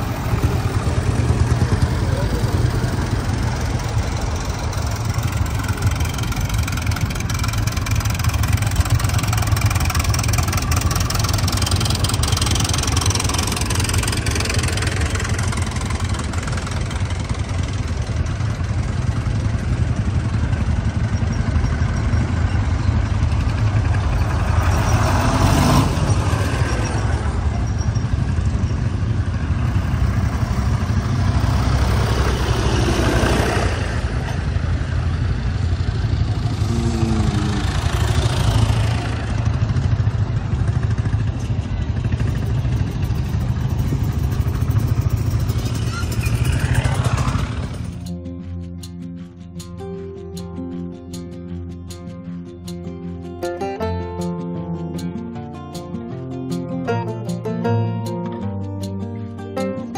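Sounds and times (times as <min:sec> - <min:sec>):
tractor engines droning: 0:00.0 - 0:59.9.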